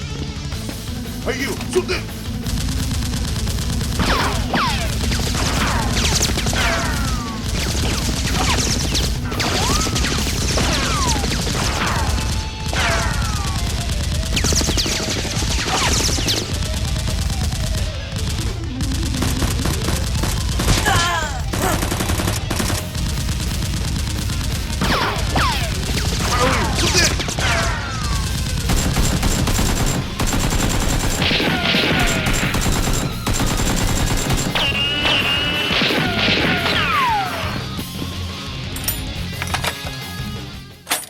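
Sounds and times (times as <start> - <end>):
rapid automatic gunfire: 2.1 - 37.8.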